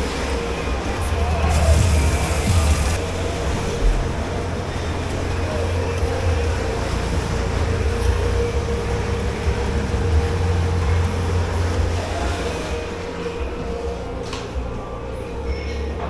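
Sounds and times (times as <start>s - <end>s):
kitchen machinery drone: 0.0s - 16.0s.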